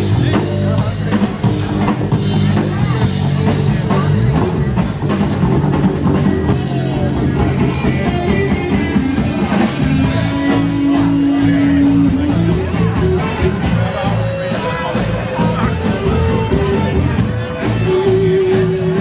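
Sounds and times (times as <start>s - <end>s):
loud rock music: 0.0s - 19.0s.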